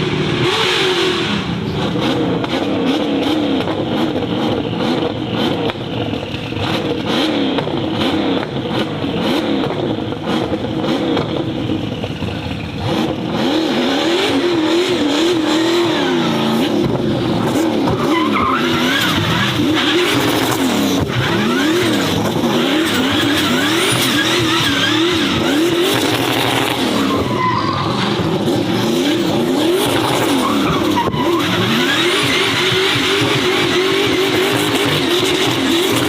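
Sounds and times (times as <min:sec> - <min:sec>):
racing car engine revving: 0:00.0 - 0:36.0
tyres skidding and squealing: 0:00.0 - 0:36.0.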